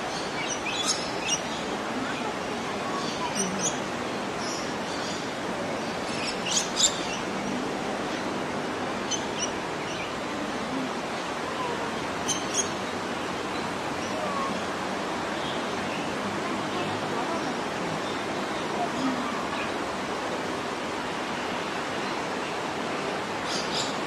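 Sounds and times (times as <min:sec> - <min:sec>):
steady rushing background noise: 0:00.0 - 0:24.0.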